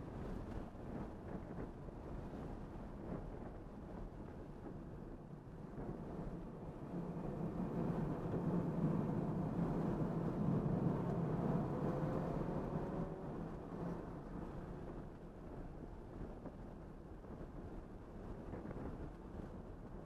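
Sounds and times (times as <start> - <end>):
road wind and tyre noise in car: 0.0 - 20.0.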